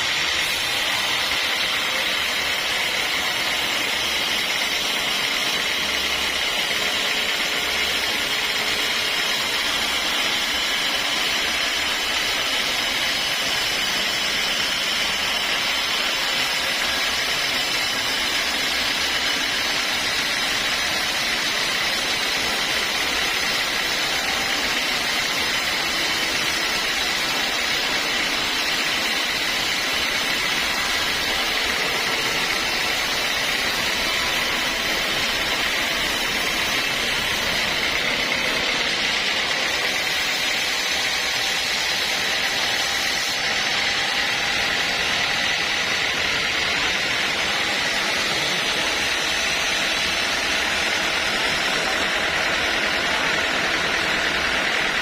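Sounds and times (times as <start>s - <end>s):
sawmill saw high-pitched whirring: 0.0s - 55.0s.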